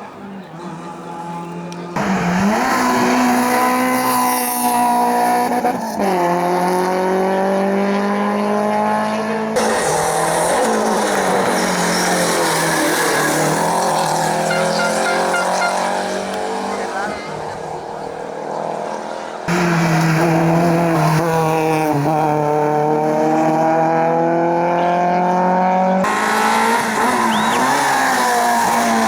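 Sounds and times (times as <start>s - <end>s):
race car engines accelerating: 0.0s - 29.0s.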